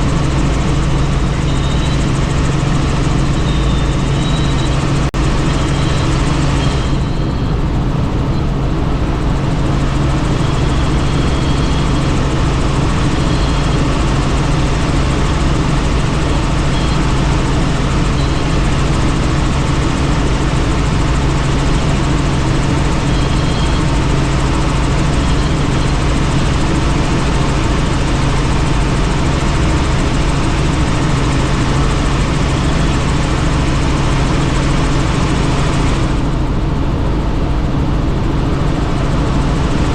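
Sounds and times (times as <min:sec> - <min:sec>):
deep constant hum: 0:00.0 - 0:39.9
helicopter rotor and engine: 0:00.0 - 0:39.9.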